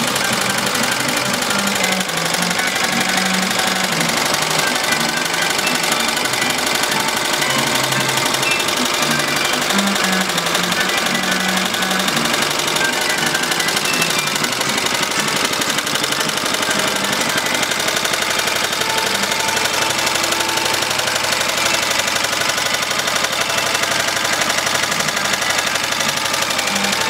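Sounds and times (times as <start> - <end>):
single-cylinder engine running: 0.0 - 27.0.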